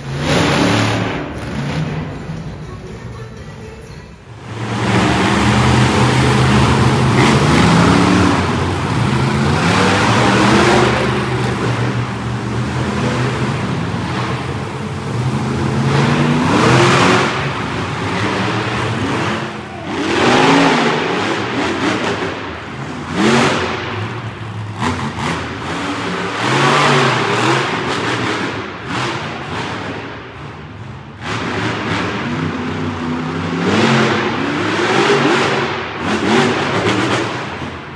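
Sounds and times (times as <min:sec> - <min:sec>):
monster truck engines revving: 0:00.0 - 0:37.9.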